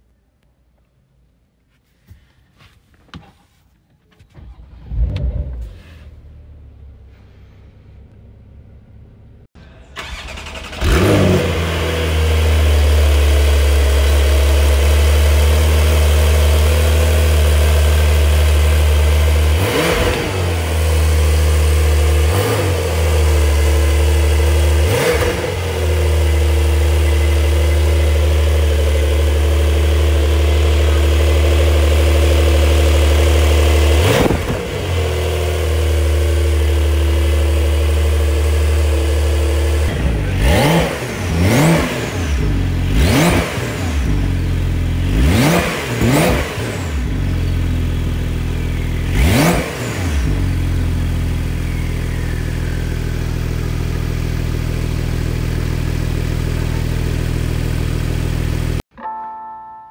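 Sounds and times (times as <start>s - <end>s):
car engine starting and idling: 4.0s - 58.8s.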